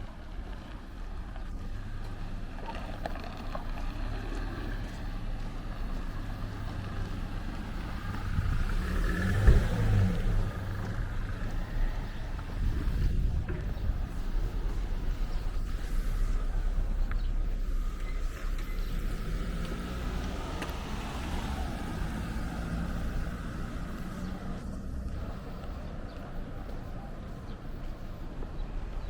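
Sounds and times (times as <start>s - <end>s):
motor engine running: 1.4s - 29.0s.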